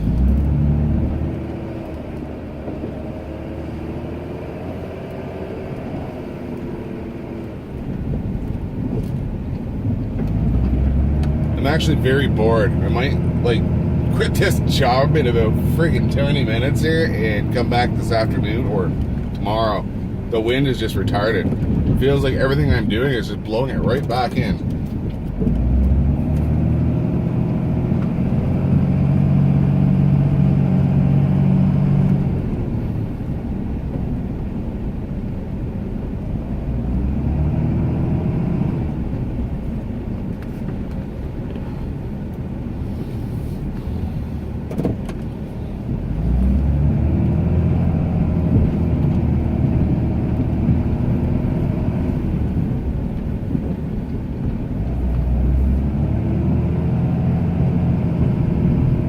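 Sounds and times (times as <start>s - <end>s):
truck engine plowing snow: 0.0s - 59.0s.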